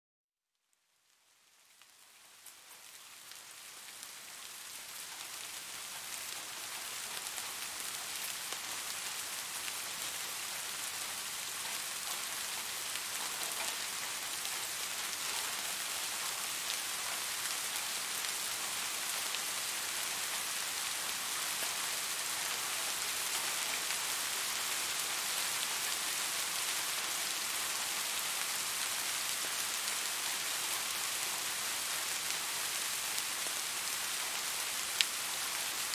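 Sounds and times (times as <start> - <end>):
steady rain falling: 0.7 - 35.9.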